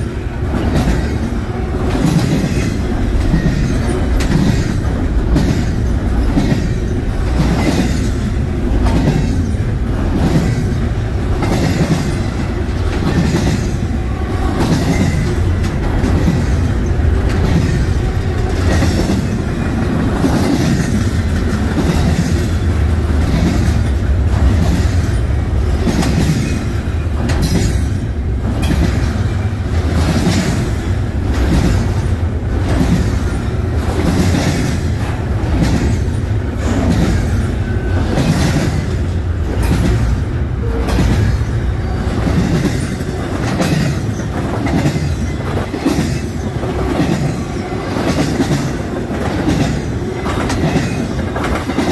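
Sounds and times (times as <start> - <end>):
steel wheels rumbling on rail: 0.0 - 51.9
wheels clicking over rail joints: 0.0 - 51.9.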